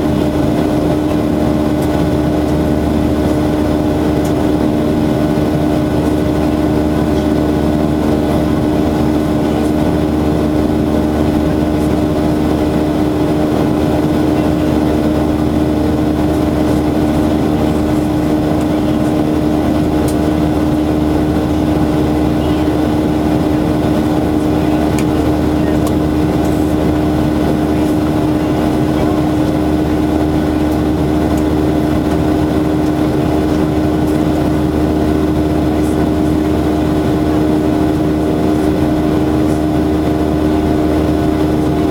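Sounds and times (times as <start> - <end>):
jet engines humming: 0.0 - 41.9.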